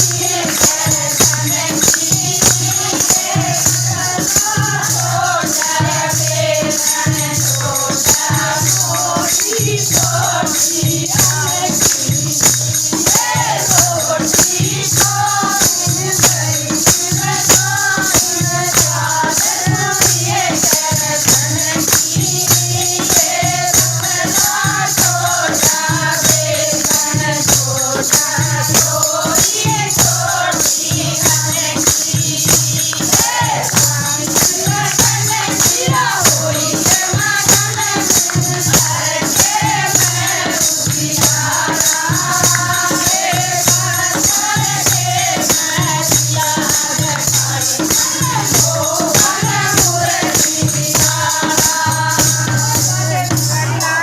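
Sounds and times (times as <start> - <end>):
jingling hand percussion: 0.0 - 54.0
voices singing devotional song: 0.0 - 54.0.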